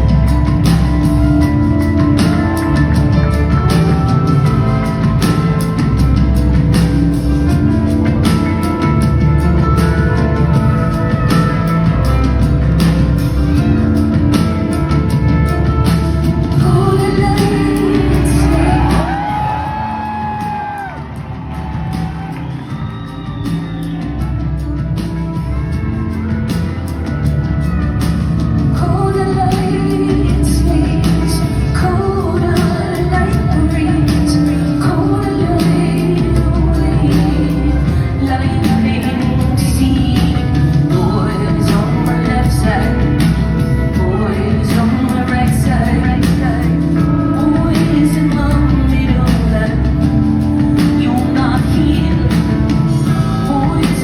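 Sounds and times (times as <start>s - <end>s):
woman singing: 0.0s - 24.8s, 28.6s - 54.0s
live rock band: 0.0s - 54.0s.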